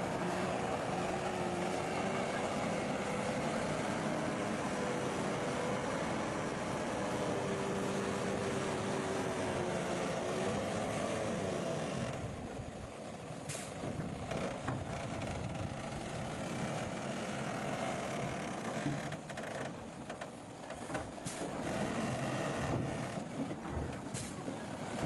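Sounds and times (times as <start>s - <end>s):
heavy machinery engines: 0.0s - 25.0s.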